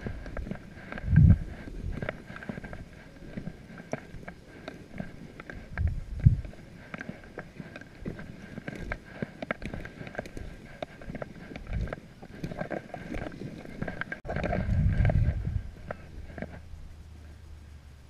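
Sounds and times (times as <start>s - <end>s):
low rumble on microphone: 0.0s - 18.0s.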